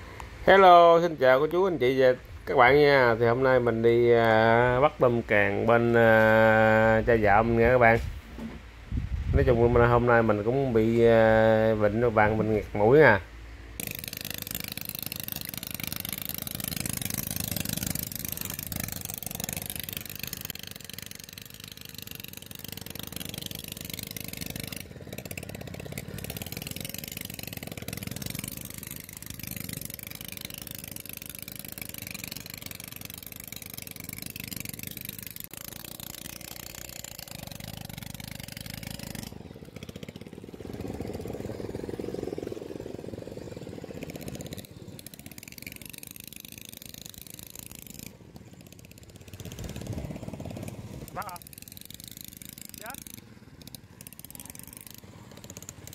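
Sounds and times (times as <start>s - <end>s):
small engine running: 0.0s - 8.2s, 9.4s - 55.9s.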